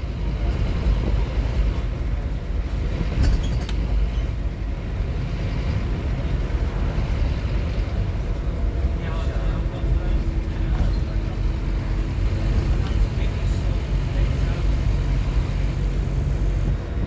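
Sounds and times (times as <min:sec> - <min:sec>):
bus diesel engine rumble: 0:00.0 - 0:17.0
road noise: 0:00.0 - 0:17.0.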